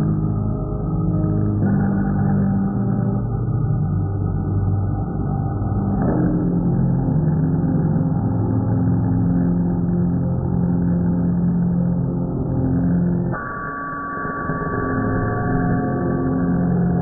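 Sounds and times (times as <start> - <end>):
deep low drone: 0.0 - 13.4, 14.4 - 17.0.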